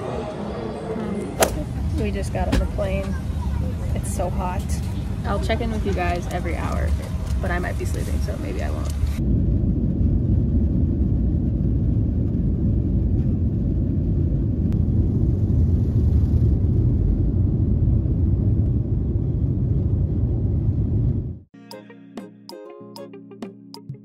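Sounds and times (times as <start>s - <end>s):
jet engines at takeoff power: 0.0s - 21.2s.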